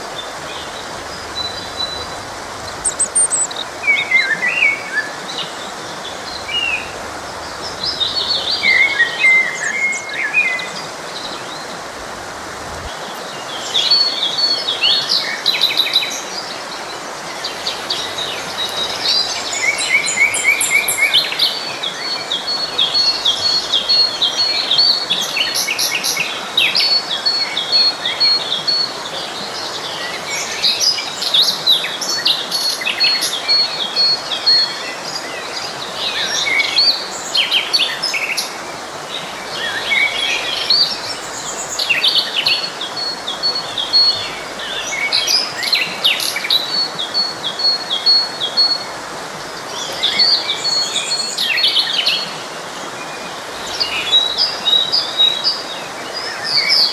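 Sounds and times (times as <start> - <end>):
forest stream rushing: 0.0 - 56.9
songbirds chirping and trilling: 0.0 - 56.9.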